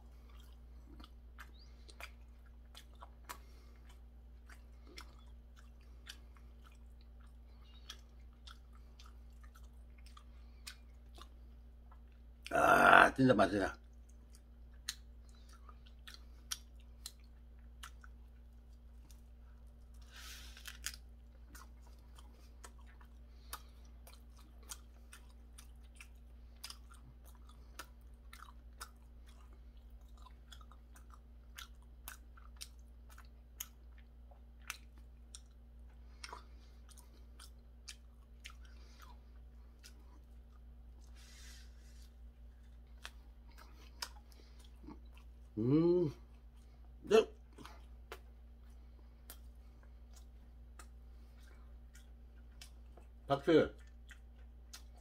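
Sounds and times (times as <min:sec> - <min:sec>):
chewing with wet mouth clicks: 0:00.0 - 0:12.5, 0:13.7 - 0:41.2, 0:42.0 - 0:55.0.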